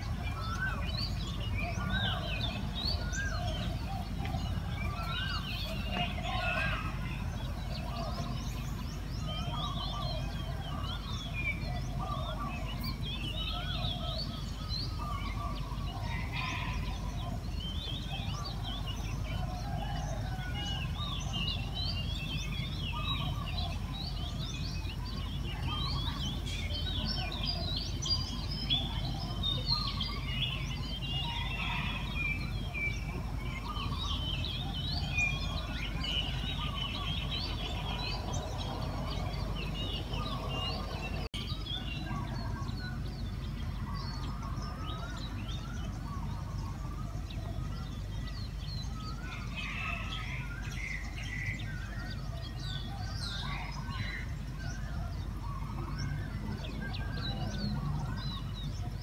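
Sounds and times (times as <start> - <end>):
birds chirping and trilling: 0.0 - 59.0
low bird calls: 0.0 - 59.0.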